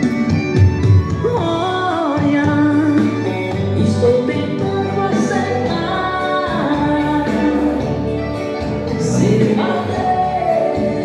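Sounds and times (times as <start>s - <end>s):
dance music with singing: 0.0s - 11.0s.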